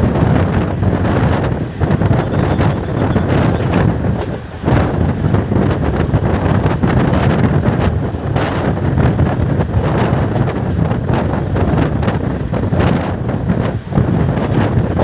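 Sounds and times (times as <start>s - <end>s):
train wheels rumbling on rails: 0.0s - 15.0s
wind buffeting microphone: 0.0s - 15.0s.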